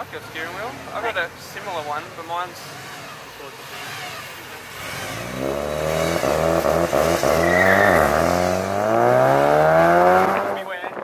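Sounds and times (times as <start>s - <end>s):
car engine accelerating hard: 0.4s - 11.0s.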